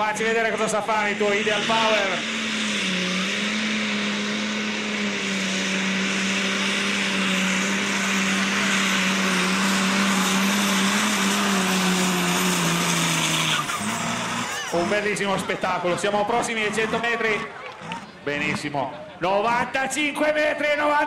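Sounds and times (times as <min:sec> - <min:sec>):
tractor diesel engine high-revving: 0:00.0 - 0:18.5.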